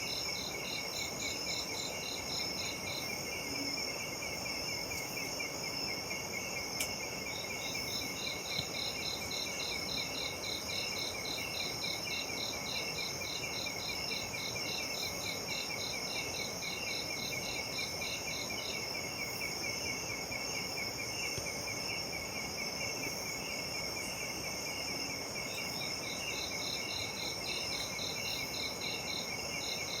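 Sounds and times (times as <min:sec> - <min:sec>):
insect pulsed call: 0:00.0 - 0:30.0.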